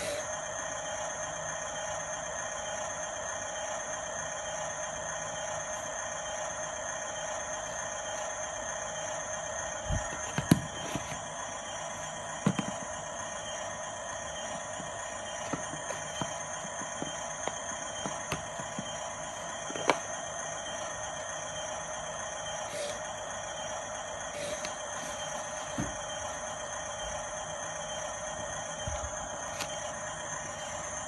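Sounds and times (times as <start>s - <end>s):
electric motors whining: 0.0s - 31.0s.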